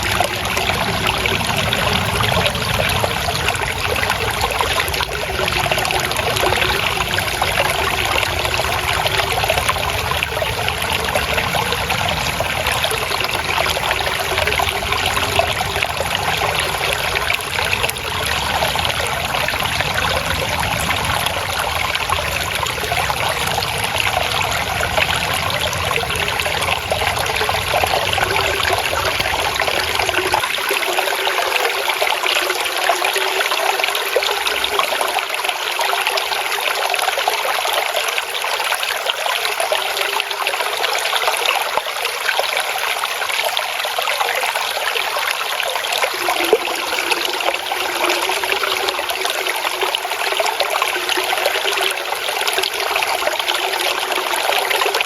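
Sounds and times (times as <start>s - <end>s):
water babbling over stones: 0.0s - 55.0s.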